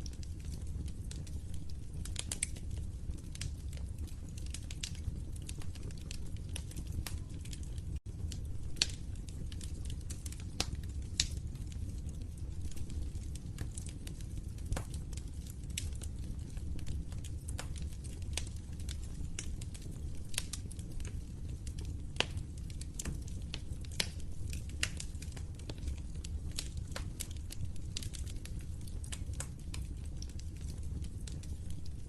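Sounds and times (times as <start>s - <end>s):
fire popping and snapping: 0.0s - 32.0s
low rumble of burning: 0.0s - 32.0s.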